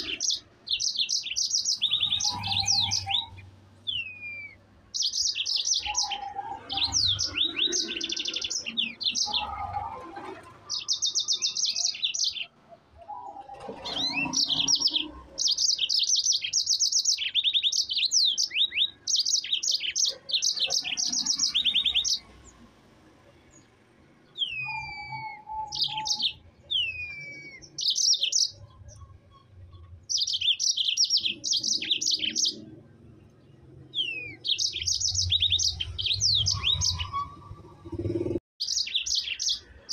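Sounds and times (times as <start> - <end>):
canary singing trills and whistles: 0.0 - 22.6, 24.2 - 32.8, 33.4 - 39.9.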